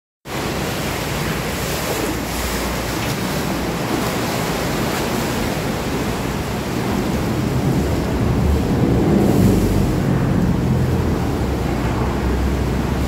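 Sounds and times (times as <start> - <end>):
churned water rushing: 0.2 - 13.0
boat engine rumble: 0.3 - 13.0
wake slapping pier: 0.3 - 13.0.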